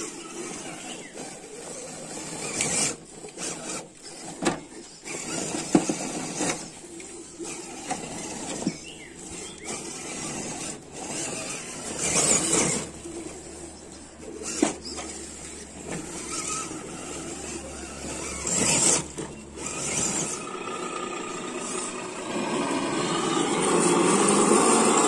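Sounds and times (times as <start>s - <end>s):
tyres scrabbling over stones: 0.0s - 22.0s
rc truck motor whining: 0.0s - 25.0s.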